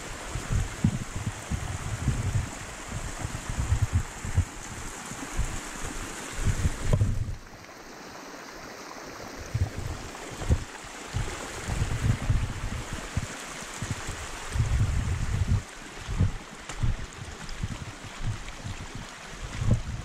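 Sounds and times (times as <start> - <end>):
wind buffeting microphone: 0.0 - 7.5, 9.3 - 20.0
rainwater rushing down trail: 0.0 - 20.0.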